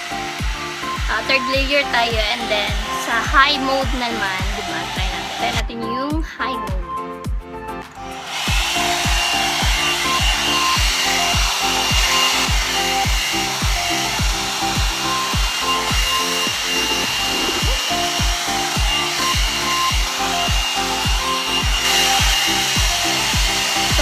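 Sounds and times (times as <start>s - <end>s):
hair dryer blowing: 0.0s - 5.8s, 7.6s - 24.0s
background music with steady beat: 0.0s - 24.0s.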